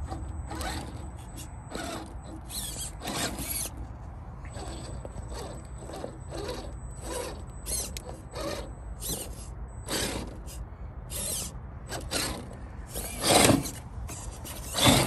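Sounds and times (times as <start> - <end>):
electric motor whirring: 0.0 - 3.7, 4.4 - 15.0.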